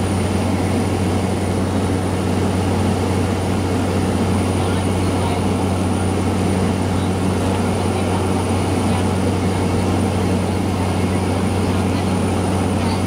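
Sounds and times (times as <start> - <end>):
turboprop engine drone: 0.0 - 13.0.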